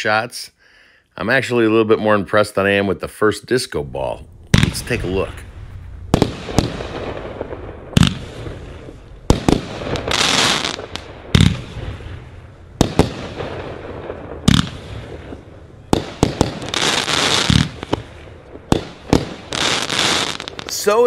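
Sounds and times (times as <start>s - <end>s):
firework reports: 1.2s - 21.0s
firework crackle: 3.8s - 21.0s.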